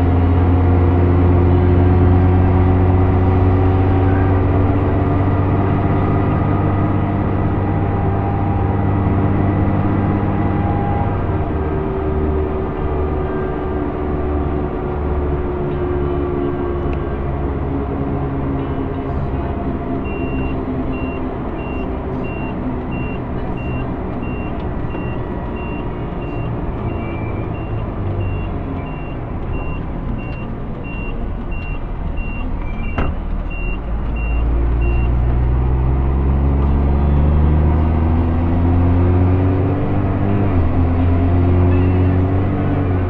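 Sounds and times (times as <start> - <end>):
tractor engine: 0.0 - 43.0.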